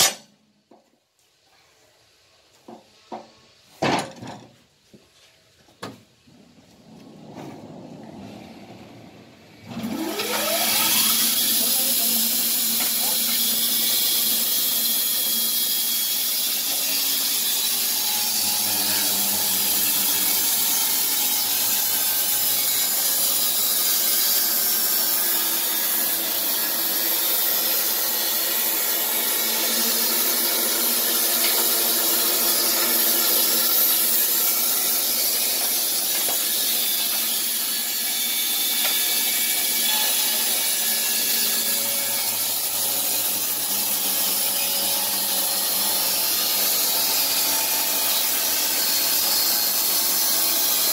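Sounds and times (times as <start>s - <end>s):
band sawmill cutting log: 9.5s - 50.9s.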